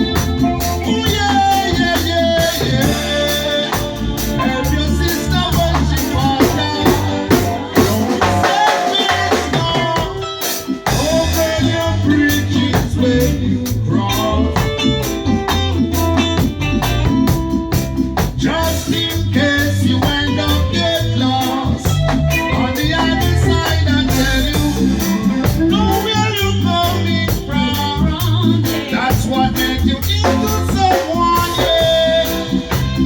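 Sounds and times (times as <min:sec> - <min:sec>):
person singing: 0:00.0 - 0:16.2, 0:18.2 - 0:33.0
bass and drum groove: 0:00.0 - 0:33.0
reggae band playing: 0:00.0 - 0:33.0.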